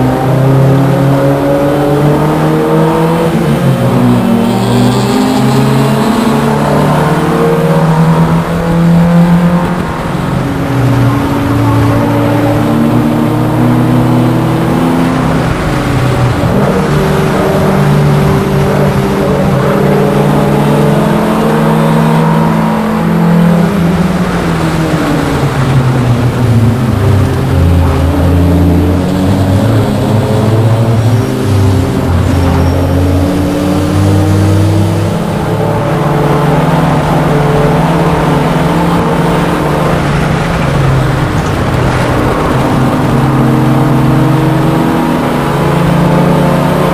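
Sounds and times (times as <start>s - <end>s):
race car engine: 0.0s - 46.9s.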